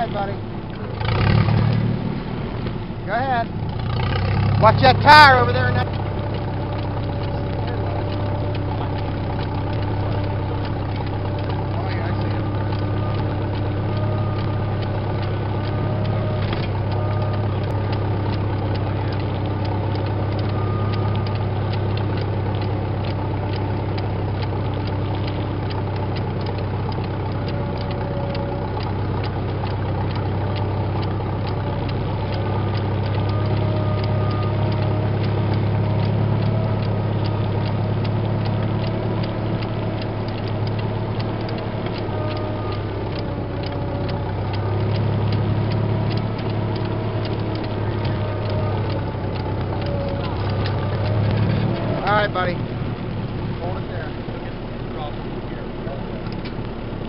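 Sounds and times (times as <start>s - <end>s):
tractor engine running: 0.0s - 57.0s
planter mechanism clicking: 3.5s - 54.9s, 56.0s - 57.0s.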